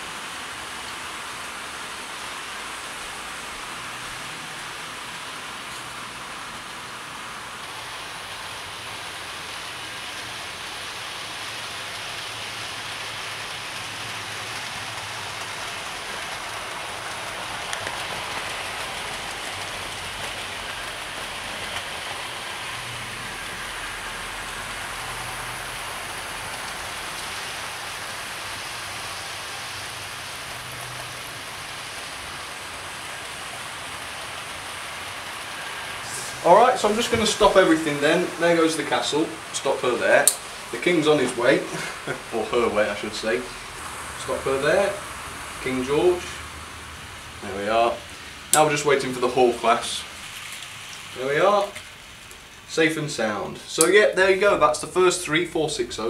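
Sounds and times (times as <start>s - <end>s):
model trains running on track: 0.0s - 56.0s.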